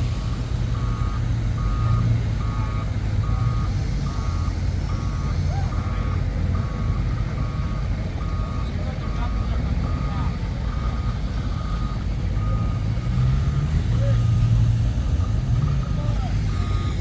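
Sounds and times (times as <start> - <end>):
engine rumbling: 0.0 - 17.0
reversing alarm beeping: 0.0 - 17.0.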